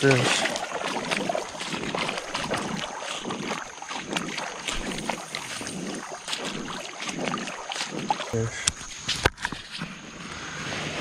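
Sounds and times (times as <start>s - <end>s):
creek water splashing: 0.0s - 10.1s.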